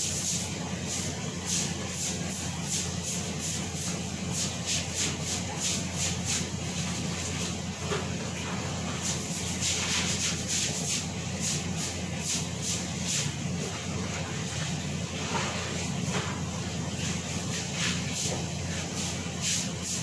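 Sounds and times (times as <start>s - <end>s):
gas burner low hum: 0.0s - 20.0s.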